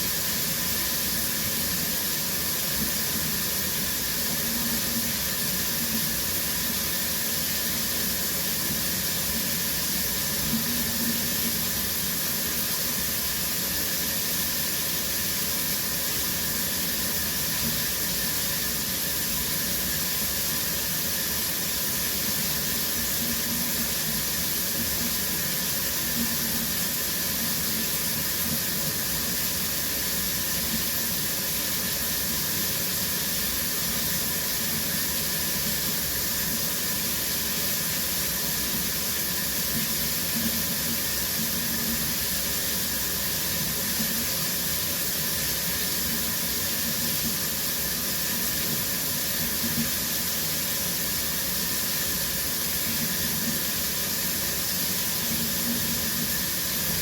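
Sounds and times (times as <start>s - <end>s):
shower water hissing: 0.0s - 57.0s.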